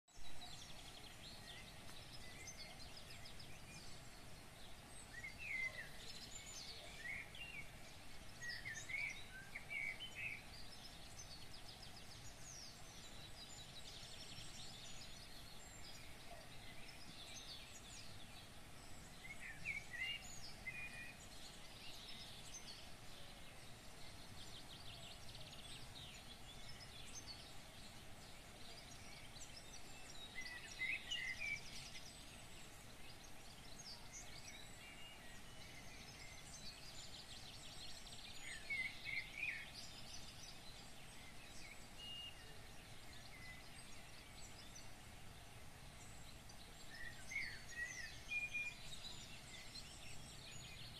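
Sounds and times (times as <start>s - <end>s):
birds chirping: 0.1s - 50.9s
outdoor background noise: 0.1s - 50.9s.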